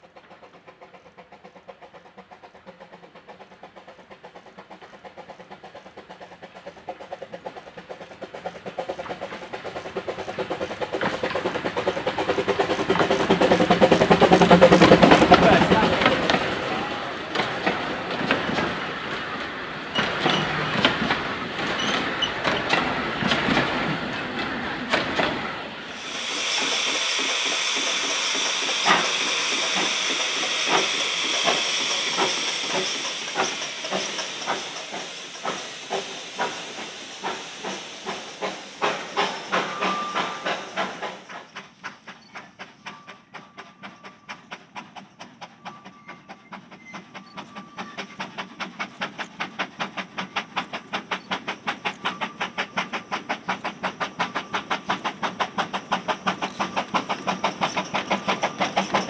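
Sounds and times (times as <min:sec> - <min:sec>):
steam hissing: 0:00.0 - 0:59.0
steam locomotive exhaust chuffs: 0:00.0 - 0:59.0.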